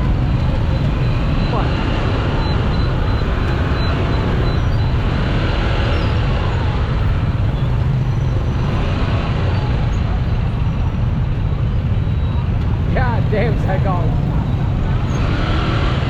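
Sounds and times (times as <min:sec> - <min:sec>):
engine and road noise: 0:00.0 - 0:16.0.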